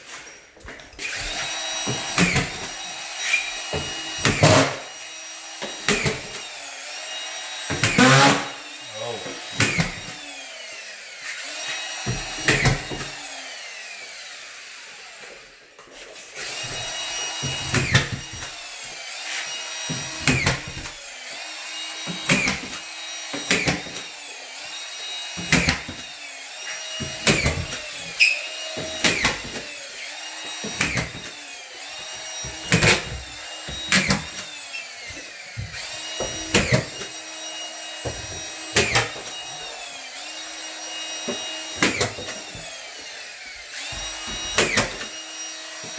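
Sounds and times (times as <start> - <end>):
screws driven into drywall: 1.0 - 5.0, 7.7 - 8.6, 9.5 - 10.4, 11.2 - 13.3, 14.8 - 37.3, 38.0 - 45.9.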